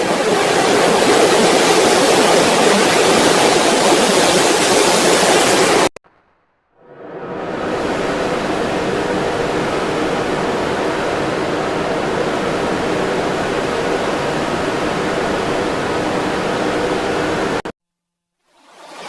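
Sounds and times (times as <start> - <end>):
static-like rushing noise: 0.0 - 17.7.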